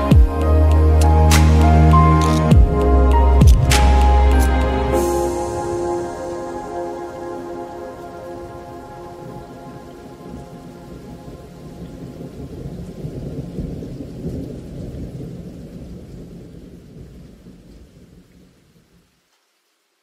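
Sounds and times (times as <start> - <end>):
thunder-like rumble with hiss: 1.0 - 18.2.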